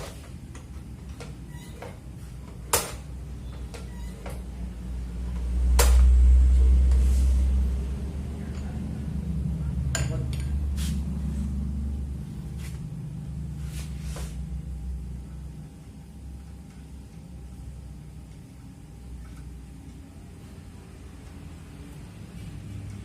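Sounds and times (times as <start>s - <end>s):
low hum: 3.3s - 23.0s.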